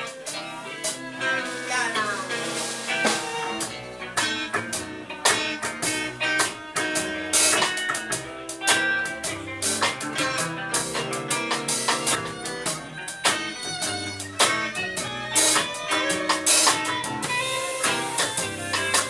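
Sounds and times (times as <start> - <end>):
drum and cymbal hits: 0.0 - 19.0
rock band playing: 0.0 - 19.0.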